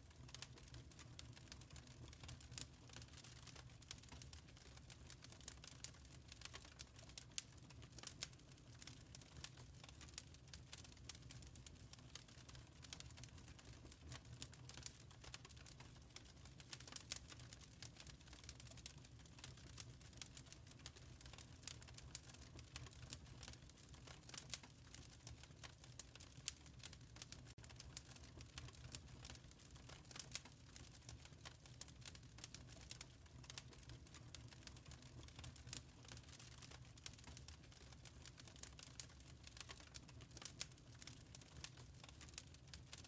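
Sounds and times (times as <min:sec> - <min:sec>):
wood fire crackling and popping: 0:00.1 - 0:43.0.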